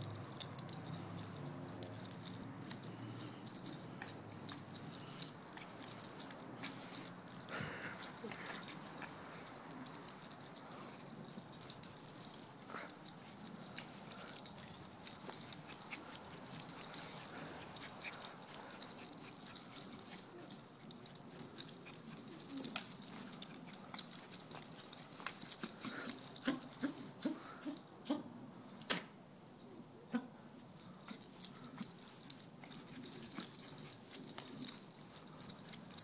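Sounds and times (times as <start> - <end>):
small dog play noises: 0.0 - 36.0.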